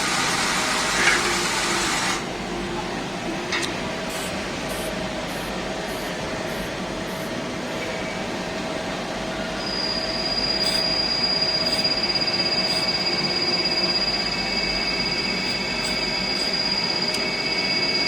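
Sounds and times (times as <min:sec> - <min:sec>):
high steady whine: 0:00.0 - 0:18.0
lathe running: 0:03.3 - 0:18.0.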